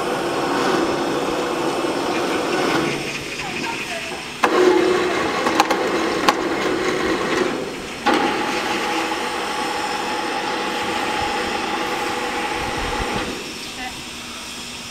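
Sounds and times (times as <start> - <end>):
hoist motor hum: 0.0 - 14.9
motor whine with one tone: 0.0 - 14.9.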